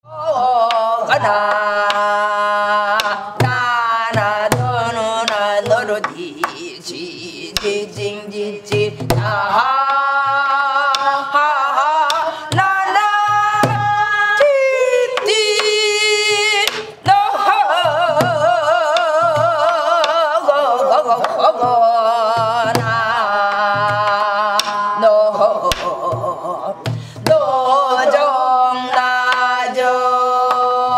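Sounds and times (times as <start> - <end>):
woman singing wordless vocals: 0.0 - 30.9.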